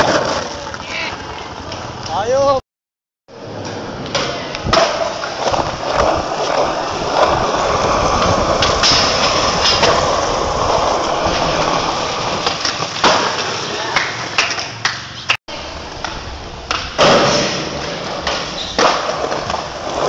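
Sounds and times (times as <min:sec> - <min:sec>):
skateboard clacking on ground: 0:00.0 - 0:02.3, 0:03.5 - 0:20.0
skateboard wheels rolling on concrete: 0:00.0 - 0:02.6, 0:03.3 - 0:20.0.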